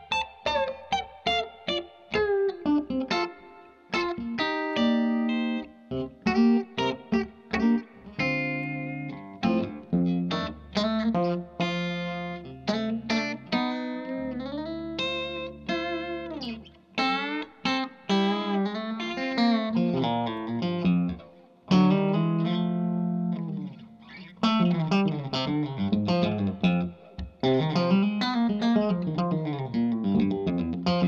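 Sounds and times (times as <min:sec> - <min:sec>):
electric guitar lead line: 0:00.0 - 0:31.0.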